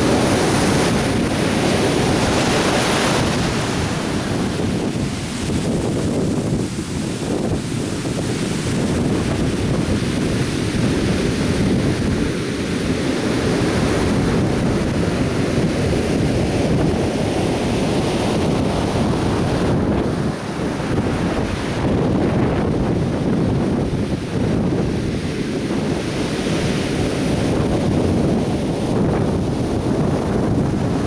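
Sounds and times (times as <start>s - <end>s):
surf breaking on beach: 0.0s - 31.0s
wind buffeting microphone: 0.0s - 31.0s.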